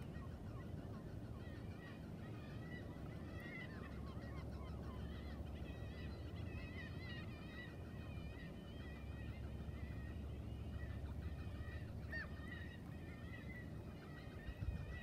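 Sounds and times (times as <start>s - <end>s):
many birds chattering: 0.0s - 15.0s.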